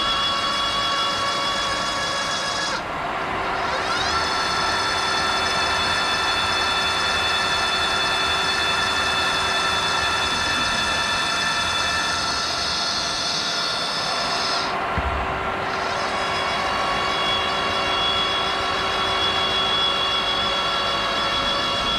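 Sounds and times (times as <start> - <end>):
metalworking machine whining: 0.0 - 21.9.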